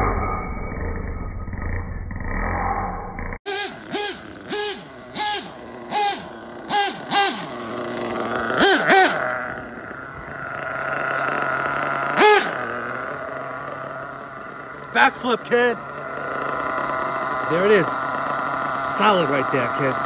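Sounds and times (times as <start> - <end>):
model car engine revving: 3.4 - 20.0.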